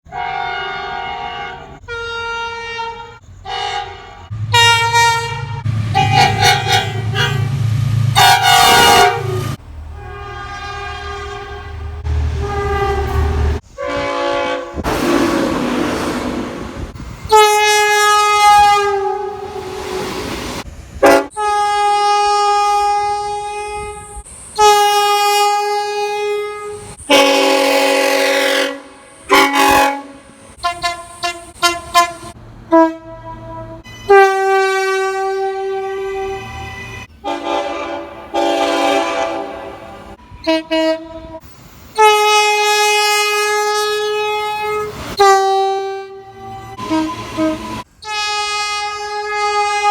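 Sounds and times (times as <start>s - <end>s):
rumble of moving trains: 0.0s - 49.9s
short train horn toots: 0.1s - 16.6s, 17.3s - 20.3s, 21.0s - 41.4s, 42.0s - 49.9s
train horn chords: 0.1s - 20.4s, 21.0s - 41.4s, 42.0s - 49.9s.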